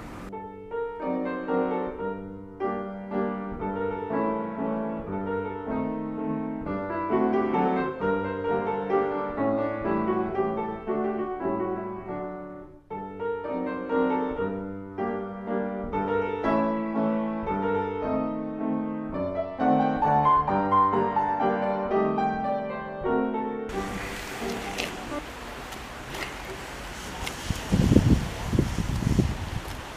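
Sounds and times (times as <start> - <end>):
lively classical piano piece: 0.0 - 29.9.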